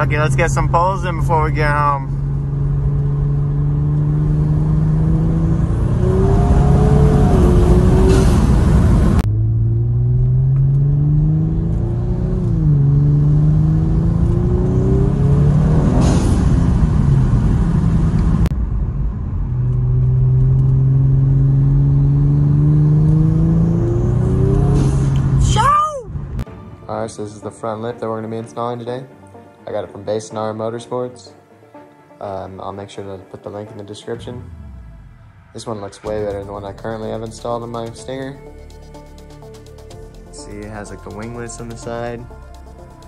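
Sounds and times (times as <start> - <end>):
car engine accelerating: 0.0 - 26.5, 34.1 - 43.0.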